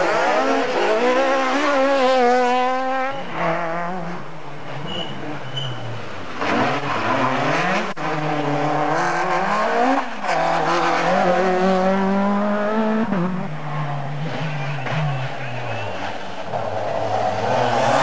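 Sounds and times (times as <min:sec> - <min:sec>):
rally car accelerating past: 0:00.0 - 0:04.2, 0:06.4 - 0:18.0.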